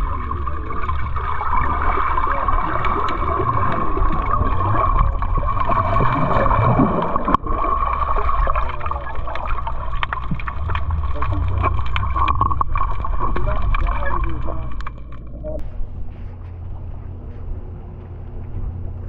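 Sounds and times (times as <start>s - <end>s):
water gurgling: 0.0s - 15.6s
boat motor running: 0.0s - 19.0s.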